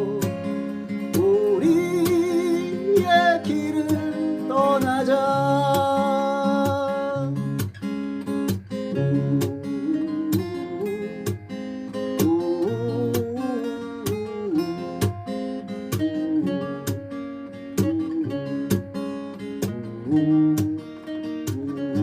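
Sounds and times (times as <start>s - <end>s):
acoustic guitar lead melody: 0.0s - 22.0s
acoustic guitar strummed chords: 0.0s - 22.0s.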